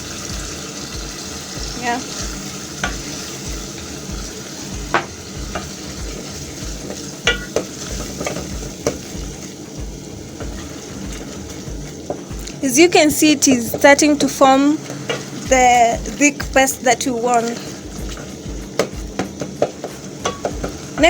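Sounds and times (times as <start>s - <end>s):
tomatoes sizzling in a frying pan: 0.0s - 21.0s
spoon scraping and knocking pan: 2.1s - 21.0s.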